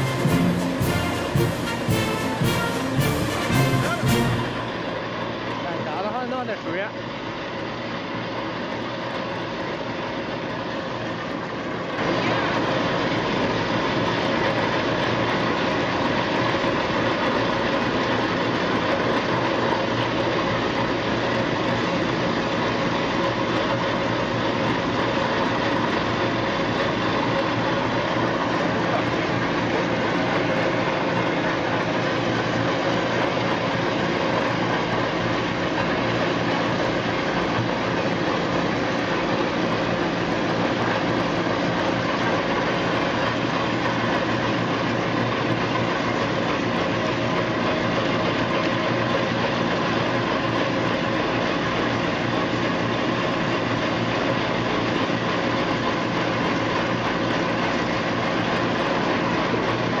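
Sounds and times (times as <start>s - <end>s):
peeling machine hum: 0.0s - 60.0s.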